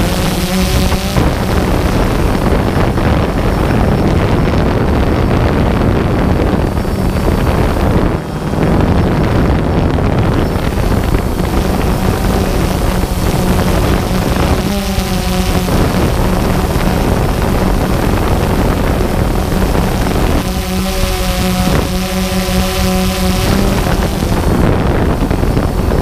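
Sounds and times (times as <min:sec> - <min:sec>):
drone propeller motors humming: 0:00.0 - 0:26.0
wind buffeting microphone: 0:00.0 - 0:26.0.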